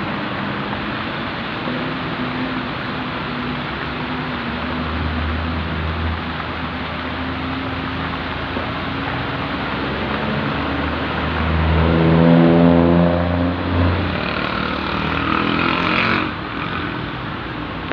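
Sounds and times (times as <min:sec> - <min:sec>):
motor vehicle passing: 0:03.2 - 0:17.9.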